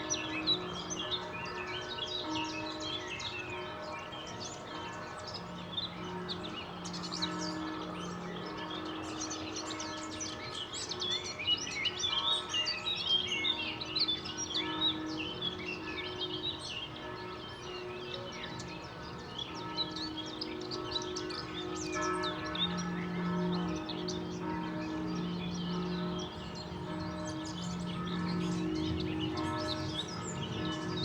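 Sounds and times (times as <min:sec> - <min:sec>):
distant church bells ringing: 0:00.0 - 0:31.0
songbirds chirping: 0:00.0 - 0:31.0.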